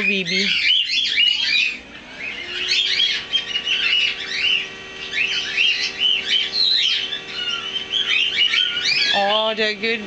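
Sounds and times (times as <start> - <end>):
parrot chirping and squeaking: 0.0 - 9.3.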